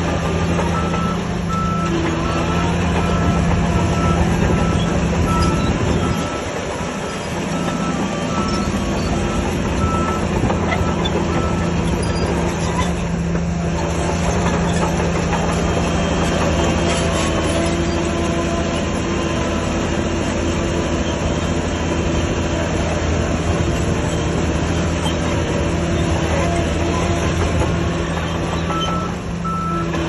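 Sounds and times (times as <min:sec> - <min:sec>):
bulldozer diesel engine running: 0:00.0 - 0:30.0
steel tracks clanking and squealing: 0:00.0 - 0:30.0.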